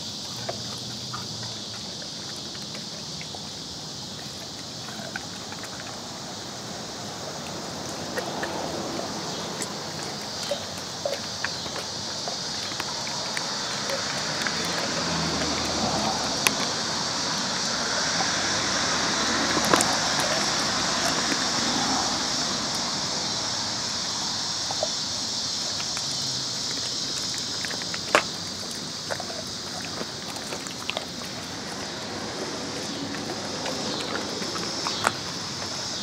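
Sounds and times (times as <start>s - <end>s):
dogs crunching bone: 0.0s - 36.0s
steady outdoor hiss: 0.0s - 36.0s.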